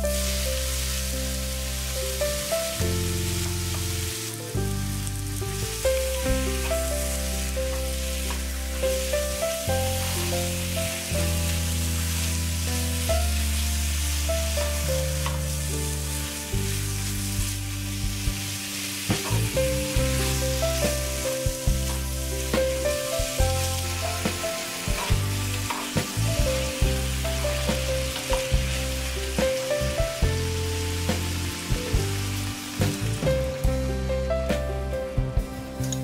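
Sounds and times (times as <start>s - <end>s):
food sizzling in hot oil: 0.0s - 34.3s
slow background music: 0.0s - 36.0s.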